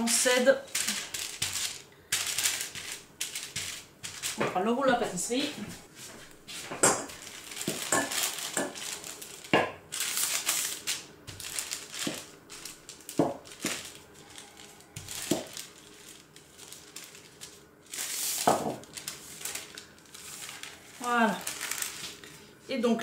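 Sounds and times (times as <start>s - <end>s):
baking paper crinkling: 0.0s - 23.0s.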